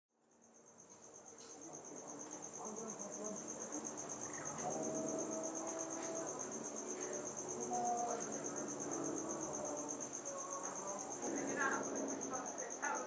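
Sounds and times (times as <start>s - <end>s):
insect chirping: 0.2s - 13.0s.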